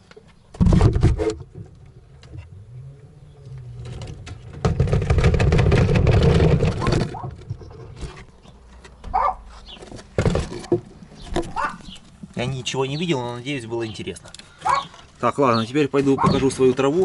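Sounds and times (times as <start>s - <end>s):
rustling and scraping of cage: 0.0s - 17.0s.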